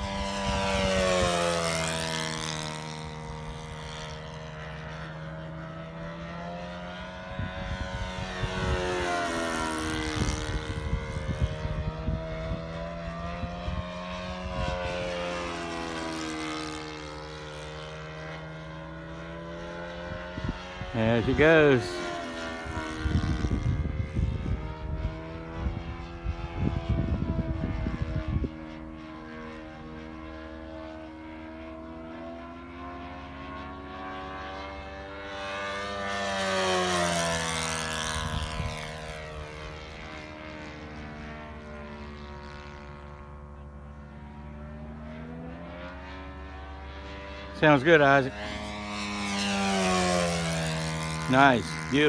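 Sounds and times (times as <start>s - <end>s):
model airplane engine: 0.0s - 52.0s.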